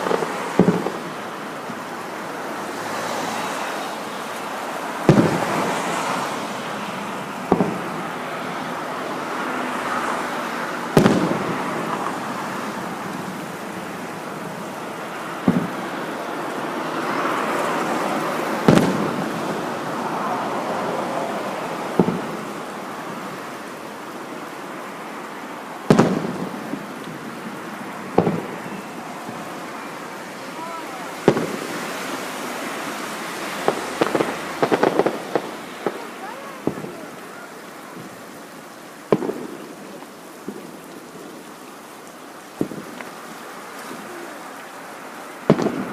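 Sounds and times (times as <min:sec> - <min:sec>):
fireworks bangs: 0:00.0 - 0:10.0, 0:10.6 - 0:23.6, 0:25.8 - 0:38.3, 0:39.0 - 0:41.4, 0:42.6 - 0:43.2, 0:45.4 - 0:45.9
steady rushing background noise: 0:00.0 - 0:45.9.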